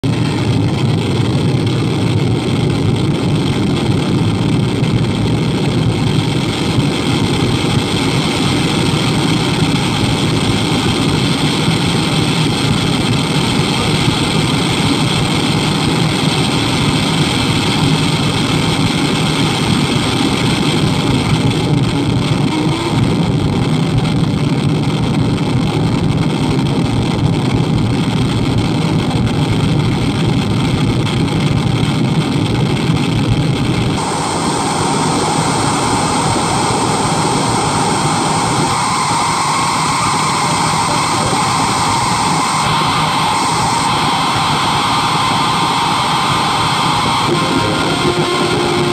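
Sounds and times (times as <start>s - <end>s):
distorted static noise wall: 0.0s - 48.9s.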